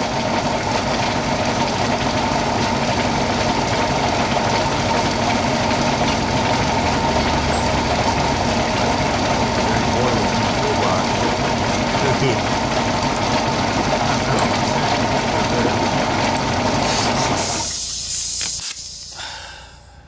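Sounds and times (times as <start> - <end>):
motor droning steadily: 0.0 - 20.0.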